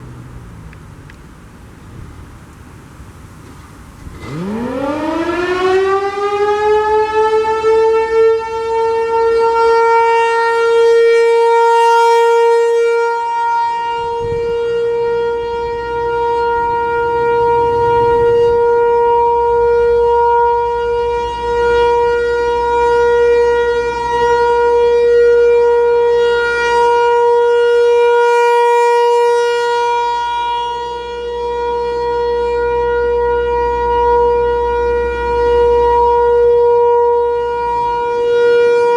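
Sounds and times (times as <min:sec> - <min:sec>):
rotating warning siren: 0:03.9 - 0:38.9.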